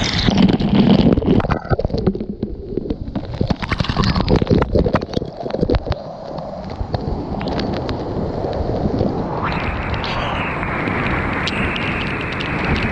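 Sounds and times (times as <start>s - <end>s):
water sloshing and gurgling: 0.0s - 12.9s.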